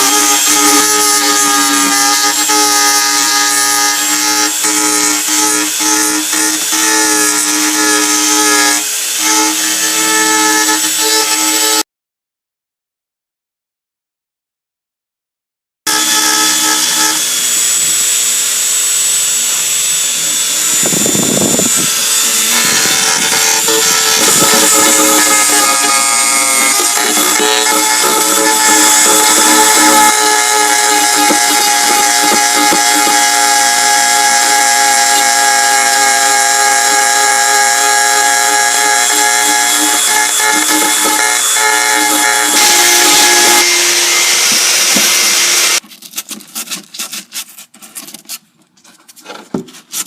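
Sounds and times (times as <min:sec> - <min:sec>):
electric sander on wood: 0:00.0 - 0:11.8, 0:15.9 - 0:45.8.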